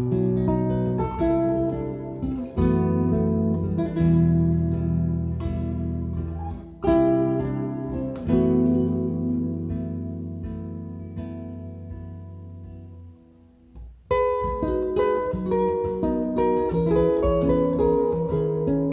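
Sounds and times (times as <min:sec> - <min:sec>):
acoustic guitar: 0:00.0 - 0:18.9.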